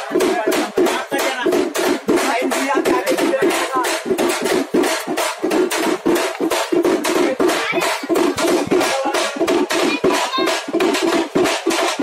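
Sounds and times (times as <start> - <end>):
drums beaten fast: 0.0 - 12.0.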